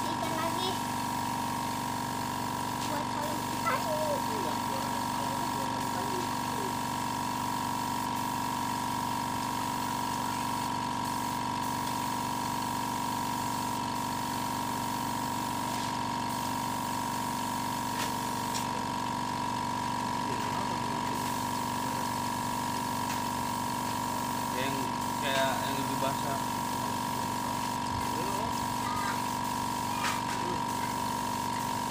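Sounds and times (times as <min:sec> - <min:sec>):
air compressor humming: 0:00.0 - 0:31.9.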